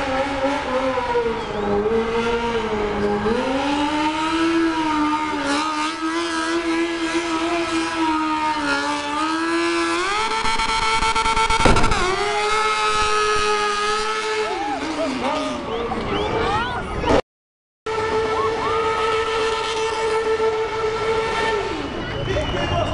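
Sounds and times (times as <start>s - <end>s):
motorcycle engine at high revs: 0.0s - 15.8s, 18.0s - 22.1s.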